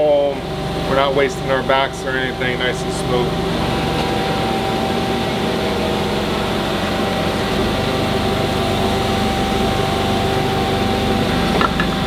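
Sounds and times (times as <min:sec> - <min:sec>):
constant machine whine: 0:00.0 - 0:12.0
shop equipment humming: 0:00.0 - 0:12.0.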